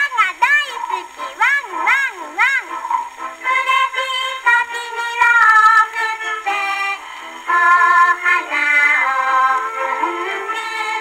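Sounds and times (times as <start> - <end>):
gramophone record of children's song: 0.0 - 11.0.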